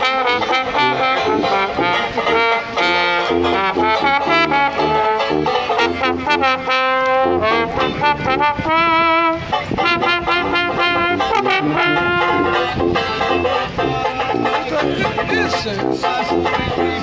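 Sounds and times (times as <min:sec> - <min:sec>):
banjo plucked chords: 0:00.0 - 0:17.0
trombone playing: 0:00.0 - 0:17.0
tuba bass notes: 0:00.0 - 0:17.0.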